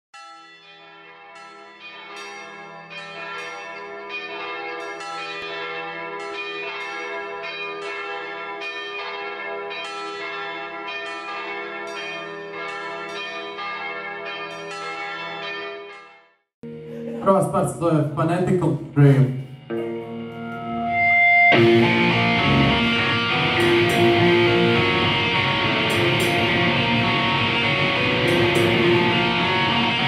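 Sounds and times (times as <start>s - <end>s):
church bells pealing: 0.2s - 30.0s.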